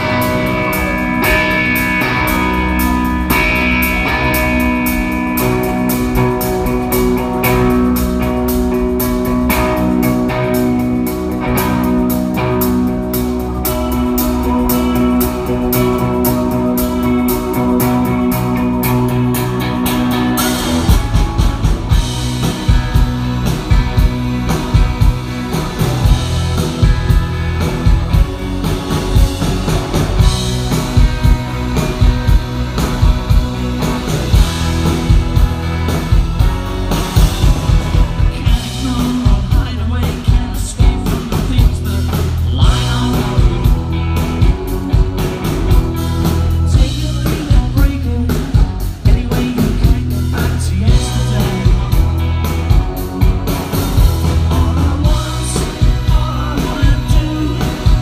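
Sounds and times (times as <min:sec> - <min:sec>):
guitar: 0:00.0 - 0:58.0
live rock band playing: 0:00.0 - 0:58.0.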